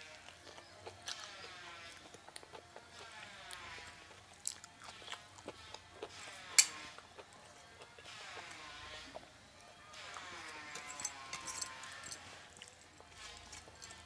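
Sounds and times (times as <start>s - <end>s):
chewing and biting: 0.0s - 14.0s.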